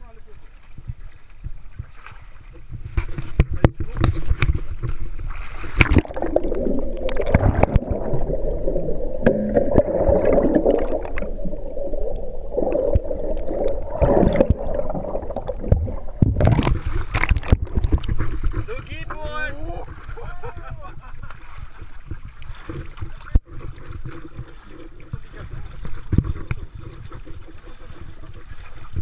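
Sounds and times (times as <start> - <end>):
underwater clicks and knocks: 0.8 - 8.3, 9.2 - 19.3, 21.2 - 29.0
underwater rushing and gurgling: 2.6 - 29.0.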